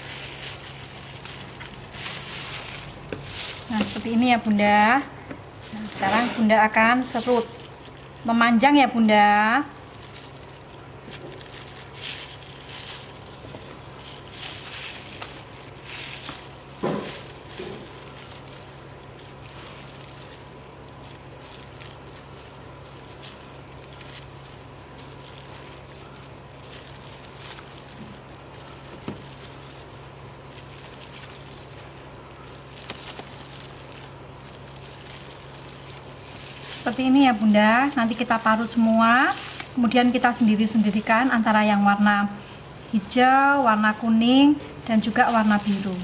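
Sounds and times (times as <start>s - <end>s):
plastic glove rustling: 0.0s - 46.0s.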